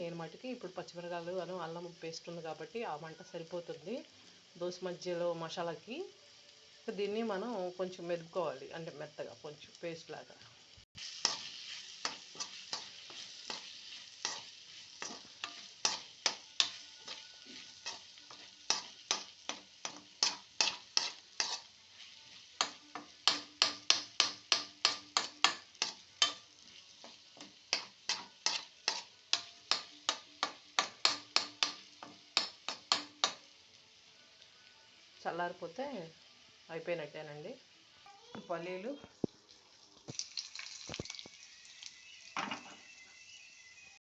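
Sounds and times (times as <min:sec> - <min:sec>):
faint sizzle from a pan: 0:00.0 - 0:44.0.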